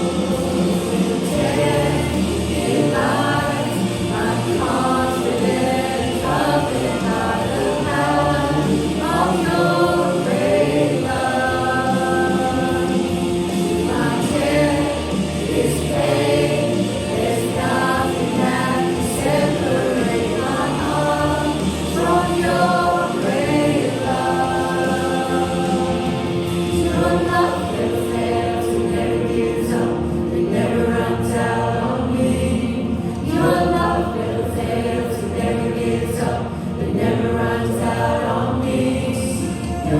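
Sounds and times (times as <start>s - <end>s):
band playing: 0.0s - 39.9s
group of voices singing: 0.0s - 39.9s.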